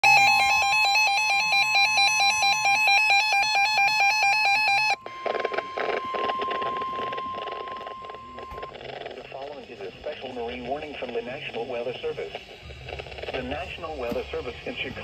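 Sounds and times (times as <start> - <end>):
electronic warble alarm: 0.0 - 14.6
radio crackle: 0.0 - 15.0
steady warning tone: 0.0 - 15.0.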